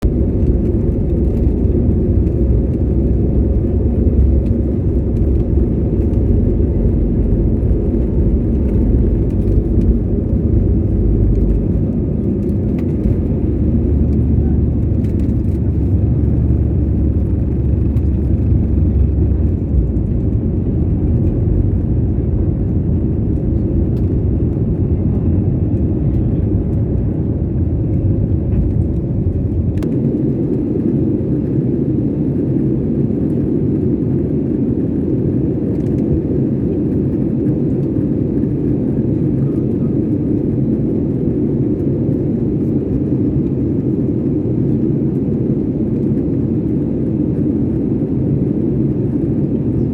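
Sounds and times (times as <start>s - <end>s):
airliner jet engine taking off: 0.0s - 49.9s.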